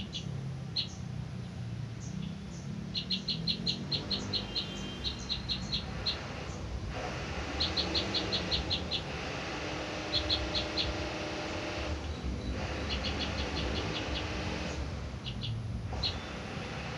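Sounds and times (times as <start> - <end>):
small bird chirping: 0.0 - 16.9.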